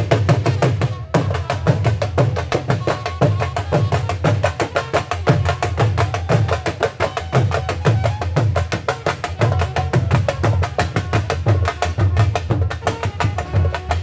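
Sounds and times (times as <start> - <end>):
dhol drum stick strokes: 0.0 - 14.0.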